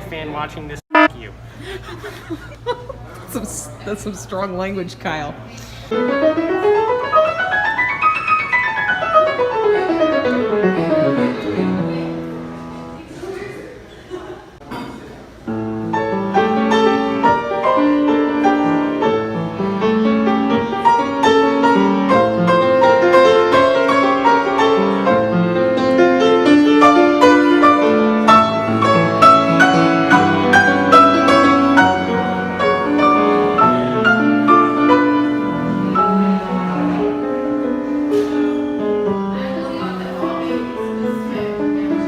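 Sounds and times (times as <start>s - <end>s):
piano music: 0.9s - 1.3s, 5.9s - 13.1s, 15.5s - 42.0s.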